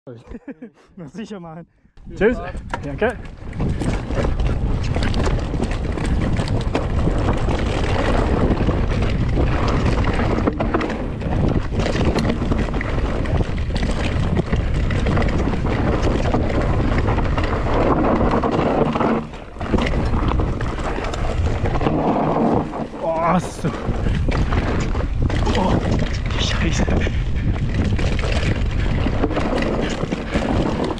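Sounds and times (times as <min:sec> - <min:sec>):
wind rushing over microphone: 0:01.8 - 0:30.9
bike tyre noise: 0:02.1 - 0:30.9
bike knocks and rattles: 0:02.5 - 0:30.9.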